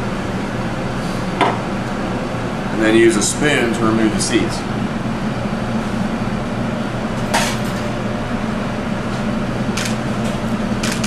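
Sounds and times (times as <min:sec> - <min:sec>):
kitchen ventilation hum: 0:00.0 - 0:11.0.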